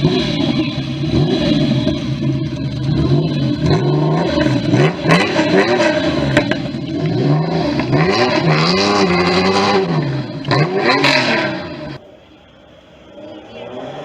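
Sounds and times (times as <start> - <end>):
sharp exhaust pops: 0.0 - 11.7
car engine revving: 0.0 - 12.0.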